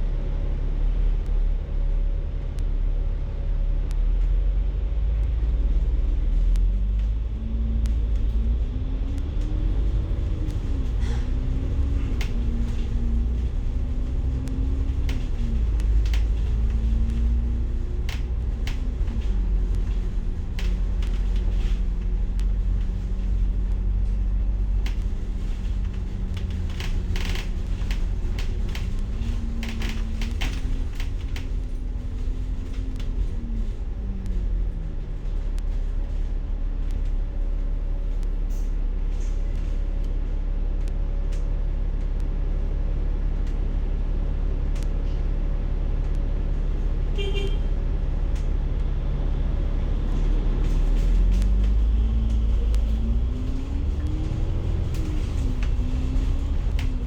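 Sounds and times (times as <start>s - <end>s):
bus engine and road rumble: 0.0s - 57.0s
bus body rattling: 5.3s - 40.7s, 41.3s - 57.0s.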